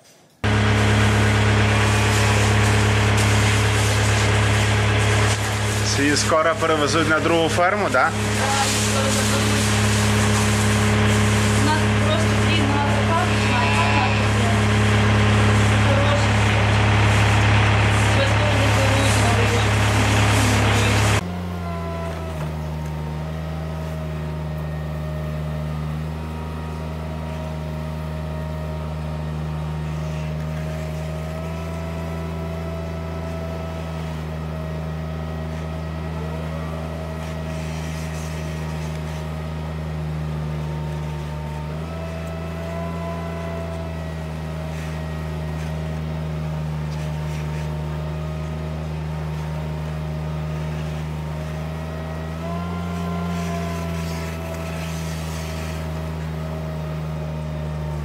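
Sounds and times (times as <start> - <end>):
loader engine droning: 0.4 - 58.0
blade scraping through slurry: 1.1 - 21.2, 28.8 - 58.0.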